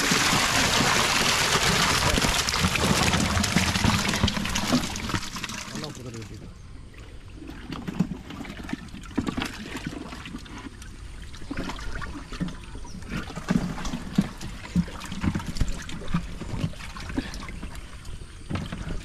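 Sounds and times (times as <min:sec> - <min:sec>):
water sloshing in plastic cans: 0:00.0 - 0:19.0.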